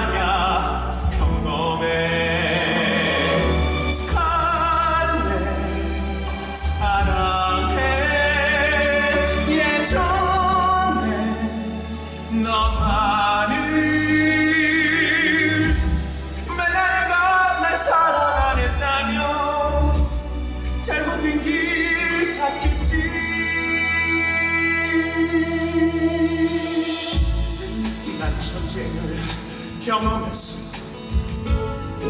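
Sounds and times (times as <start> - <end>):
instrumental accompaniment: 0.0 - 32.0
musical theatre singing: 0.0 - 32.0.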